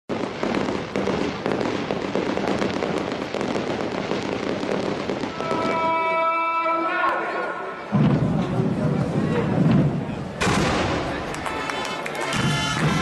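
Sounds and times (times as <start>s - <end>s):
fireworks crackling: 0.1s - 6.3s, 7.8s - 13.0s.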